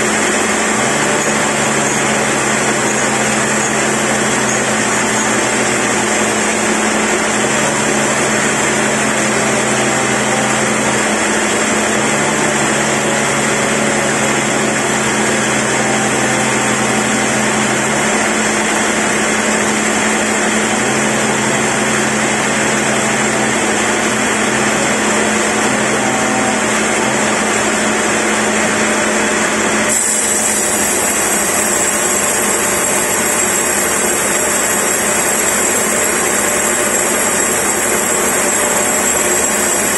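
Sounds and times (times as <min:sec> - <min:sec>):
band saw cutting log: 0:00.0 - 0:39.9
low machine hum: 0:00.0 - 0:39.9.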